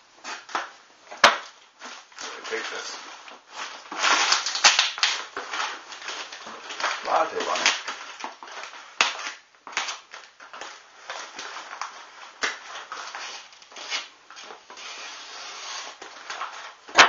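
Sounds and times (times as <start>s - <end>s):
packing tape rustling and crinkling: 0.2s - 17.0s.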